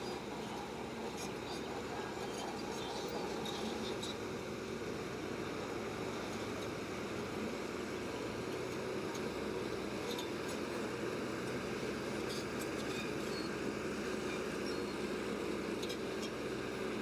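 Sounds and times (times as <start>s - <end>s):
bulldozer engine running: 0.0s - 17.0s.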